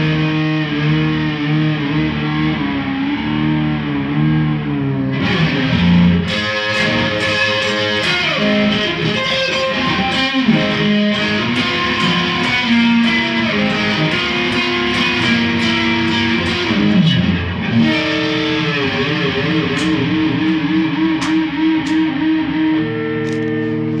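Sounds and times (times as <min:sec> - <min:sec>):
electric guitar solo: 0:00.0 - 0:24.0.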